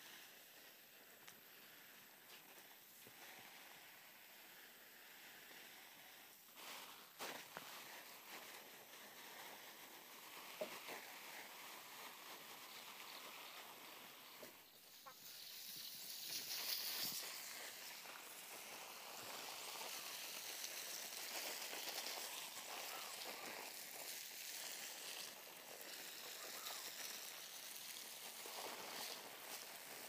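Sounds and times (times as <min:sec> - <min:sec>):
hose water spraying on plants: 0:00.0 - 0:30.0.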